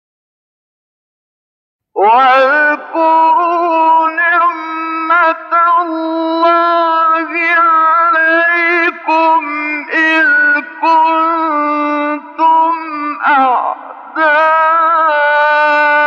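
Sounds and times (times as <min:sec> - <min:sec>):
man reciting melodically: 0:02.0 - 0:16.0.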